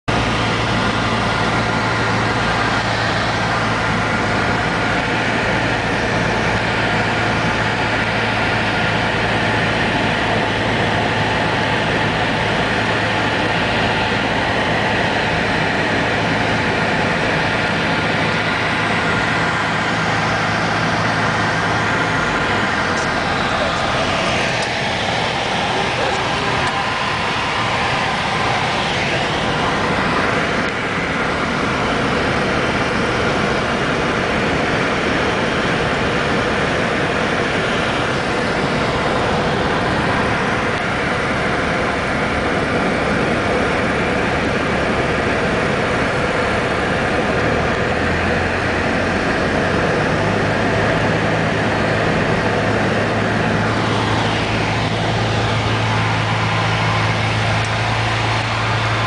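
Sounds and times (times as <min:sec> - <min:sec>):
light aircraft engine drone: 0:00.1 - 0:59.0.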